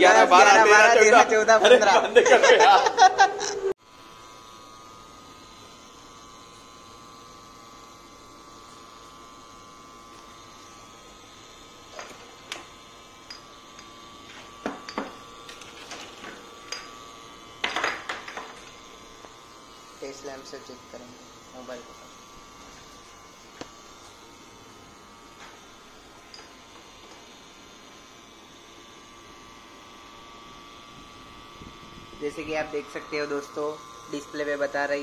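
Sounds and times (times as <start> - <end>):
electrical hum: 0.0 - 35.0.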